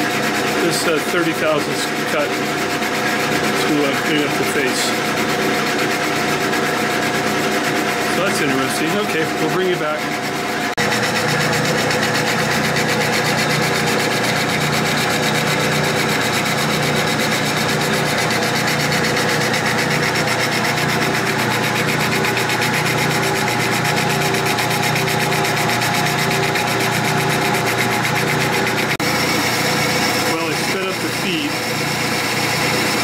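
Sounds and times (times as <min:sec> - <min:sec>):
lathe cutting steel: 0:00.0 - 0:33.0
lathe motor and gears humming: 0:00.0 - 0:33.0.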